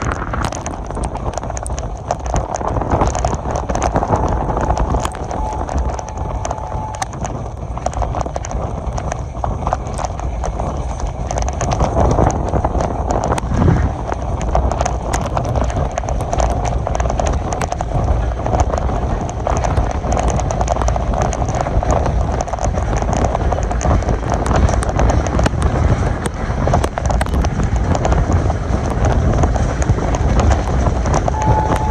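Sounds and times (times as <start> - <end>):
heavy rain falling: 0.0 - 31.9
train wheels clattering on rails: 0.0 - 31.9.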